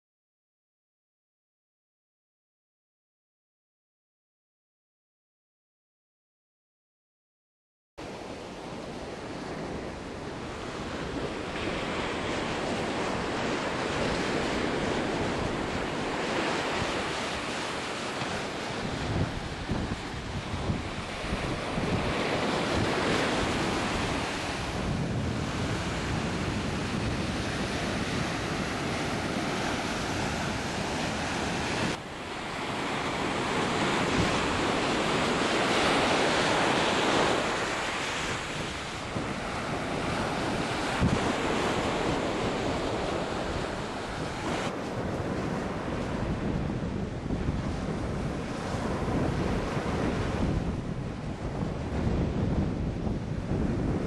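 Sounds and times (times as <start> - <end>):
ocean surf breaking: 8.1 - 54.0
wind buffeting microphone: 8.1 - 54.0.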